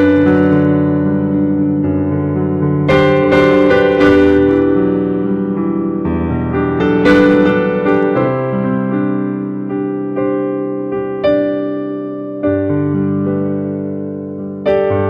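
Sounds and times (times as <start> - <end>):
gentle solo keyboard chords: 0.0 - 15.0.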